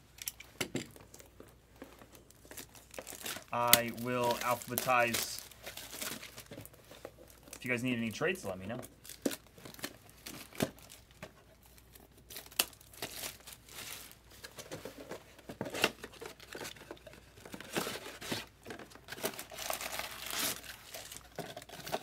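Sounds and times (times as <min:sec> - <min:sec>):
paper rustling and shuffling: 0:01.0 - 0:11.3, 0:13.0 - 0:22.0.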